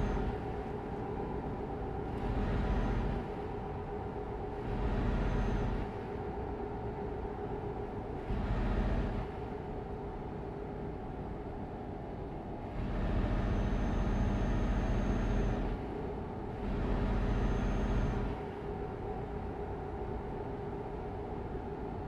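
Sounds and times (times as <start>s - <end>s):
road vehicle running hum: 0.0s - 22.0s.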